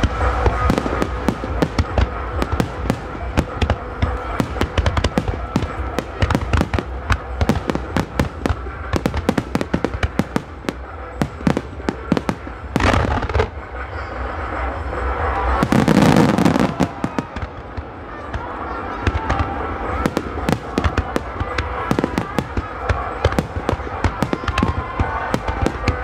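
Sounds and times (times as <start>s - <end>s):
fireworks bursting and crackling: 0.0s - 26.0s.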